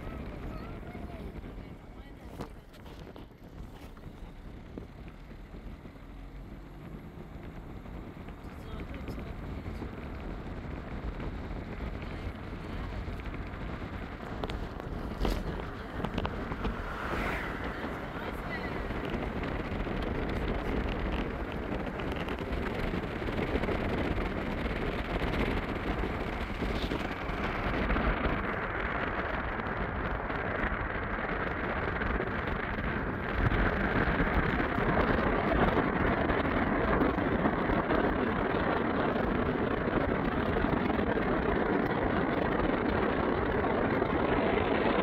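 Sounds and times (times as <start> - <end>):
car tyre road and wind noise: 0.0 - 45.0.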